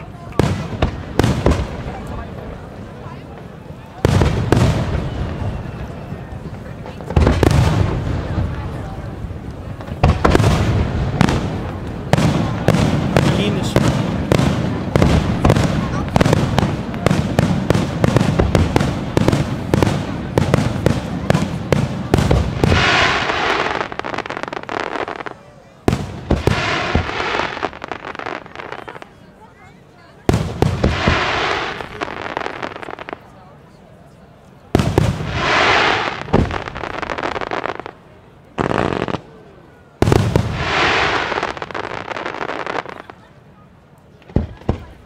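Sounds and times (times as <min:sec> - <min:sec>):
fireworks bangs: 0:00.0 - 0:33.7, 0:34.6 - 0:43.4, 0:44.1 - 0:45.0
fireworks crackling: 0:00.0 - 0:45.0.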